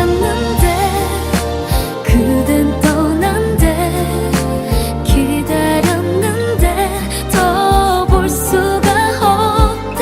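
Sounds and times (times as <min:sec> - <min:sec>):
bass line: 0:00.0 - 0:10.0
pop ballad music: 0:00.0 - 0:10.0.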